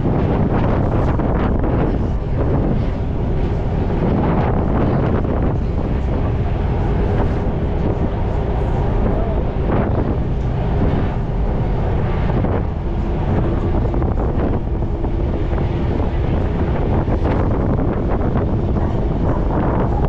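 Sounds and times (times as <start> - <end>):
ferry engine rumble: 0.0 - 20.0
wind buffeting microphone: 0.0 - 20.0.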